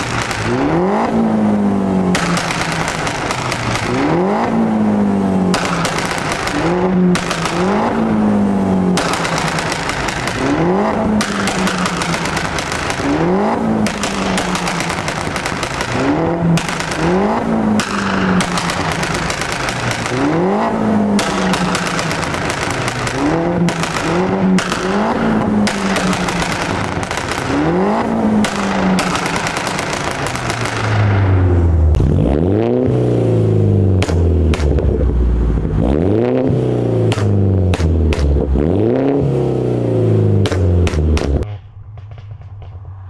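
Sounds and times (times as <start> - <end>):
car engine rev blips: 0.0 - 43.0
exhaust crackles and pops: 0.0 - 43.0.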